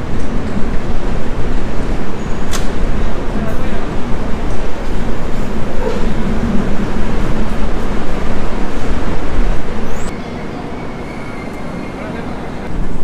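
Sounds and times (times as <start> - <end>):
train coach rumble: 0.0 - 13.0.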